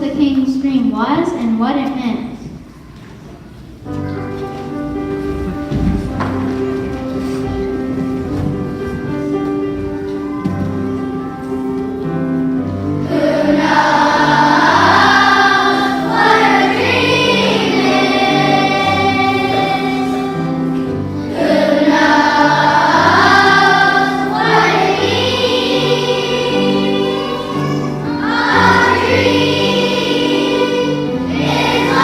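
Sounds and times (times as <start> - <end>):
instrumental accompaniment: 2.7 - 32.0
children's choir singing: 4.7 - 32.0.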